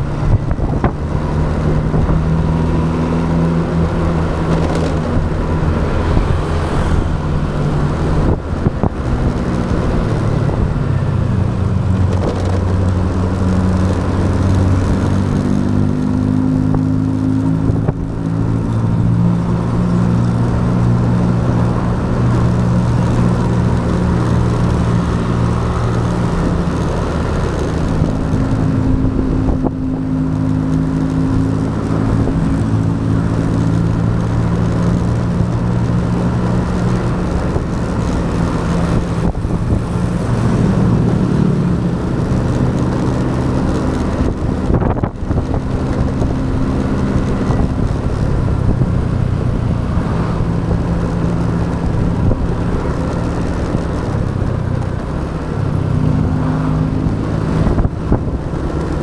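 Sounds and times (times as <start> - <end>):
motorcycle engine running: 0.0 - 59.0
noisy rush: 0.0 - 59.0.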